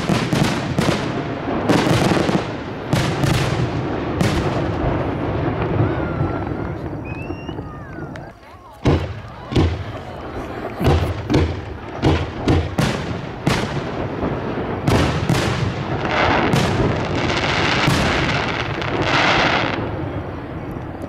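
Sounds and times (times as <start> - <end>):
firework crackling: 0.0 - 21.0
firework shells booming: 0.0 - 21.0.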